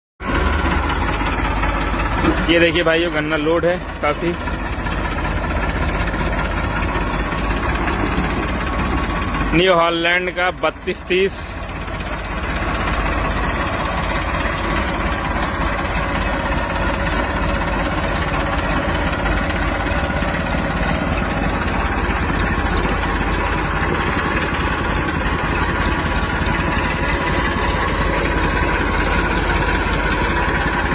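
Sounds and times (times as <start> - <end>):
tractor diesel engine running: 0.2 - 30.9.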